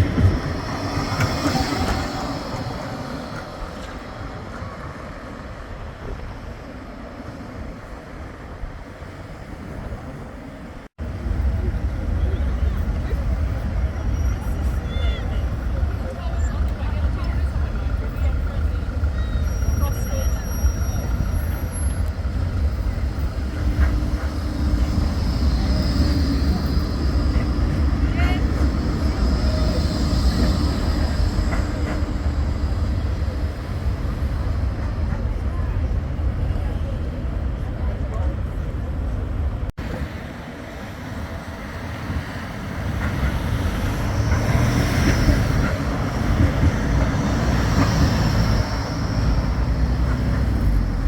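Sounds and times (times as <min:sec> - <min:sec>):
tram running noise: 0:00.0 - 0:51.0.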